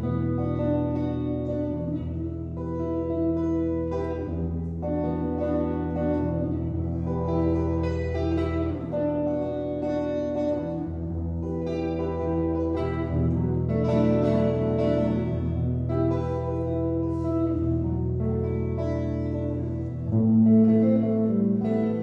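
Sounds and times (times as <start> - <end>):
solo guitar playing: 0.0 - 22.0.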